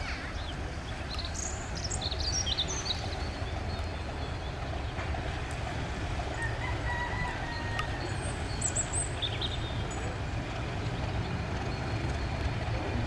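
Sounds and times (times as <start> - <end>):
diesel locomotive engine idling: 0.0 - 13.0
birds chirping: 0.1 - 13.0.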